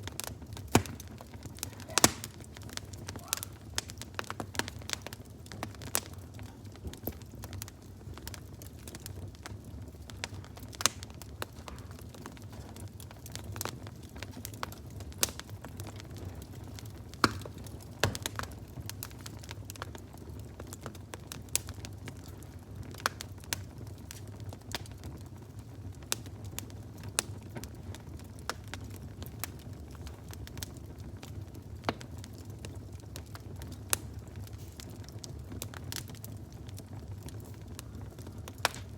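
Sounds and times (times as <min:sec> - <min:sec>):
fire crackling and popping: 0:00.0 - 0:38.9
low fire rumble: 0:00.0 - 0:38.9.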